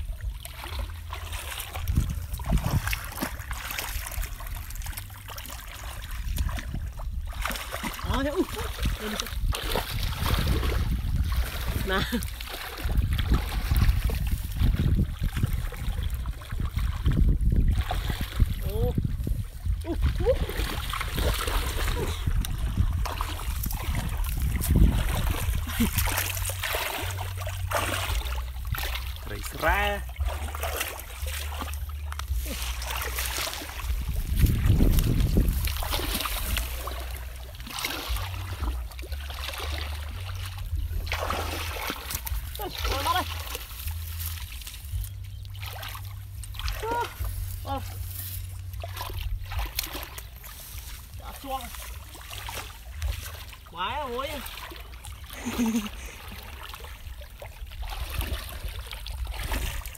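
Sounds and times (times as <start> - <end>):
muddy water sloshing and splashing: 0.0 - 59.9
wind rumble on microphone: 0.0 - 59.9.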